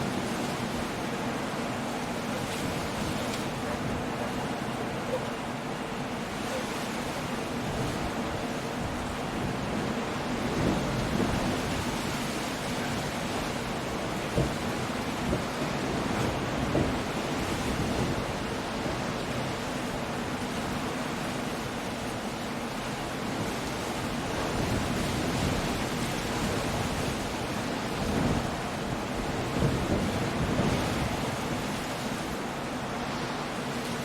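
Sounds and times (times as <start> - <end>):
rain: 0.0 - 34.0
sea surf: 0.0 - 34.0
wind: 0.0 - 34.0.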